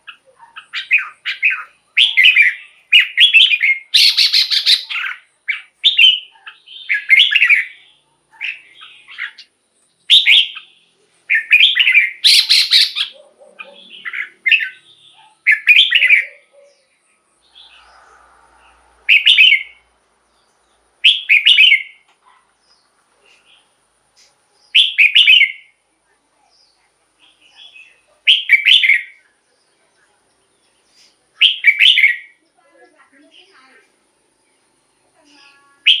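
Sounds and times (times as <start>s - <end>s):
bird singing warbling phrases: 0.0s - 25.8s, 26.4s - 36.0s.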